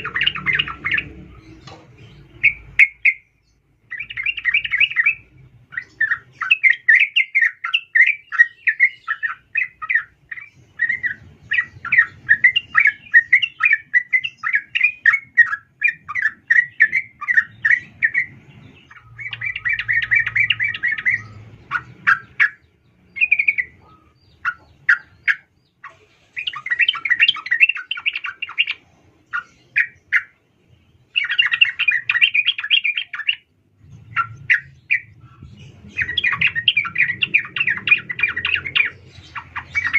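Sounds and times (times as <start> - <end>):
sharp bird notes: 0.0 - 25.8, 31.1 - 39.9
bird chattering chirps: 0.0 - 30.4, 31.0 - 39.9.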